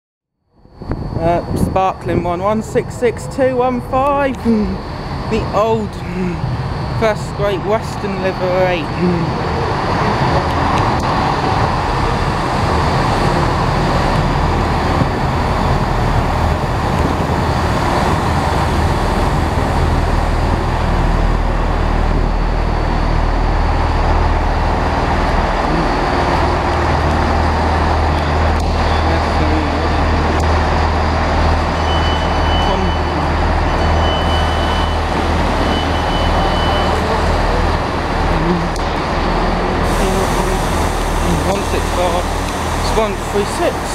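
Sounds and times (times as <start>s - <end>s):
train diesel engines droning: 0.5s - 43.9s.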